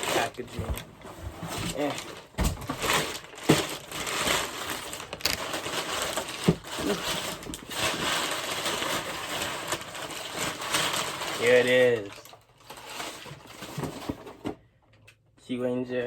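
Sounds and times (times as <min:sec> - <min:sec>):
bubble wrap crinkling: 0:00.0 - 0:14.2.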